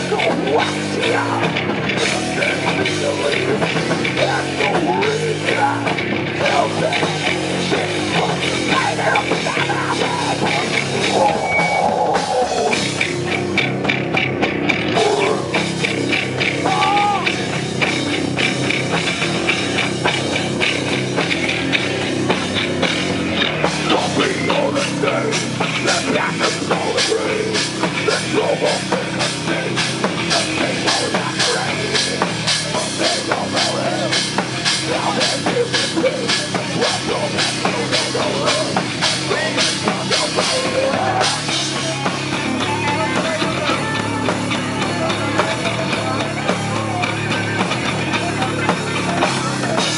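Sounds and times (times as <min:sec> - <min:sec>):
distorted guitars: 0:00.0 - 0:49.9
drum kit: 0:00.0 - 0:49.9.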